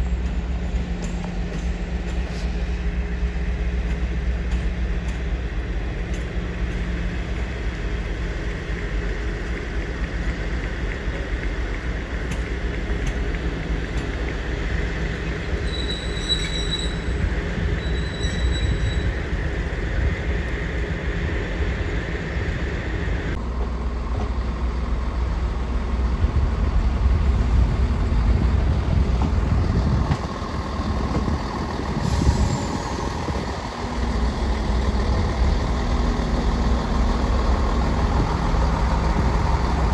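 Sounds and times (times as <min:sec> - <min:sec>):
diesel locomotive engine throbbing: 0:00.0 - 0:39.9
diesel train engines moving: 0:00.0 - 0:39.9.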